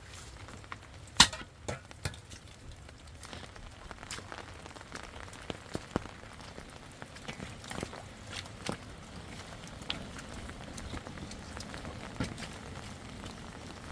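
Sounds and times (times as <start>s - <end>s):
rain pattering: 0.0s - 13.9s.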